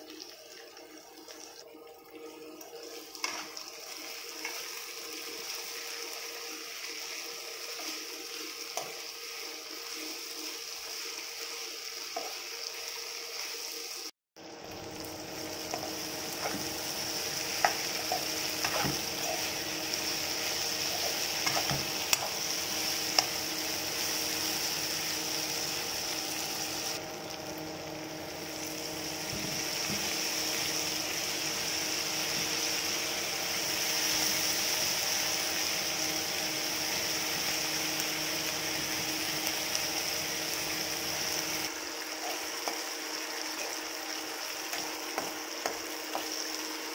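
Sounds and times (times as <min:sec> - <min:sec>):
potatoes sizzling in oil: 0:02.6 - 0:46.9.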